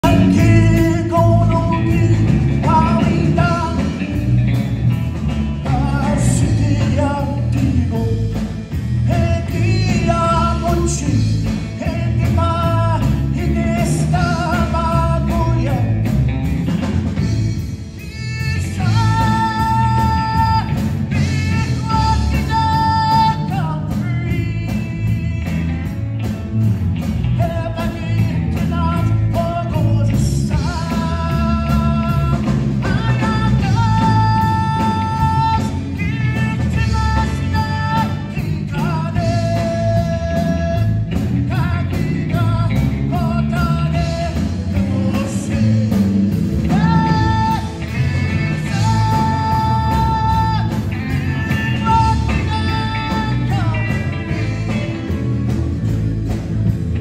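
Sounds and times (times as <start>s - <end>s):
man singing: 0.0s - 55.6s
drums: 0.0s - 57.0s
guitars: 0.0s - 57.0s.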